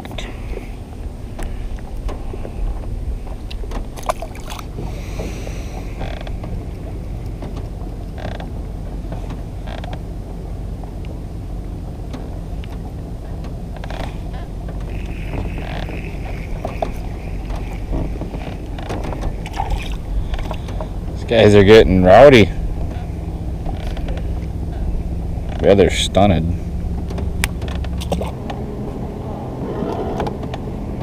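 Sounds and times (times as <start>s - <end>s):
water lapping: 0.0s - 31.0s
wind: 0.0s - 31.0s.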